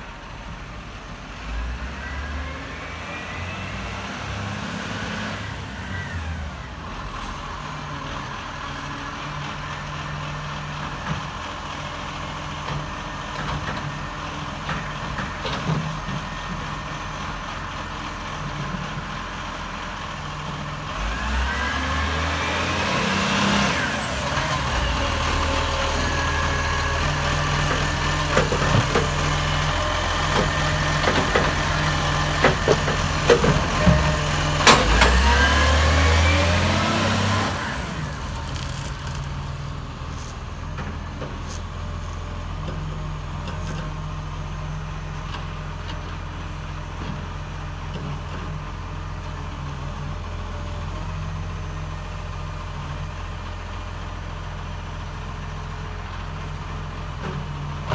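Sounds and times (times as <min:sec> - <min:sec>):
diesel engine running: 0:05.4 - 0:57.9.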